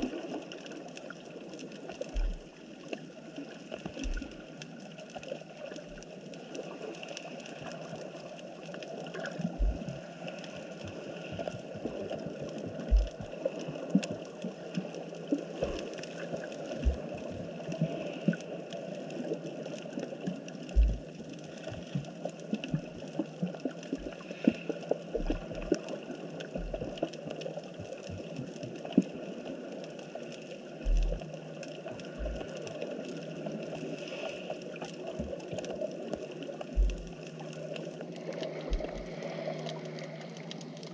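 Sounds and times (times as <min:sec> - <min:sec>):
clicks and crackles: 0:00.0 - 0:40.9
muffled underwater water wash: 0:00.0 - 0:40.9.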